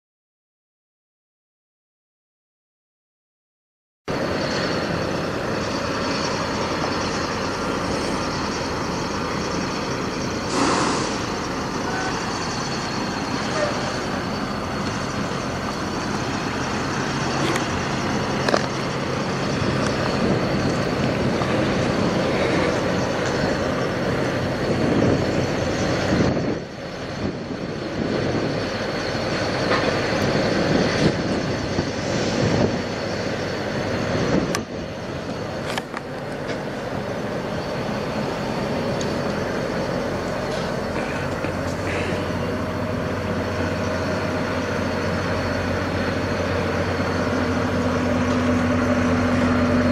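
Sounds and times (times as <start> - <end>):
outdoor noise: 4.1 - 49.9
truck engine idling: 4.1 - 49.9.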